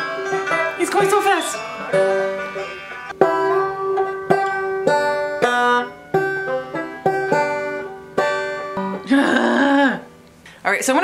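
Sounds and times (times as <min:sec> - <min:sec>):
banjo picking: 0:00.0 - 0:10.4.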